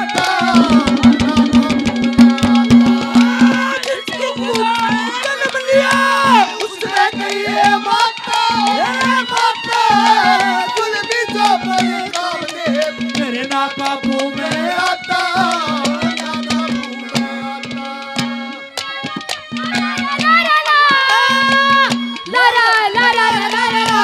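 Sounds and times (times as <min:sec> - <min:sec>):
hand drums beating rapidly: 0:00.0 - 0:24.0.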